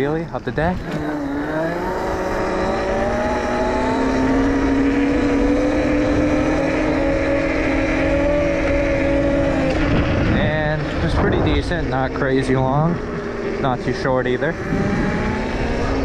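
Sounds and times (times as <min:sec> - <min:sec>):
wind noise: 0:00.0 - 0:16.0
electric motor whining: 0:00.7 - 0:16.0.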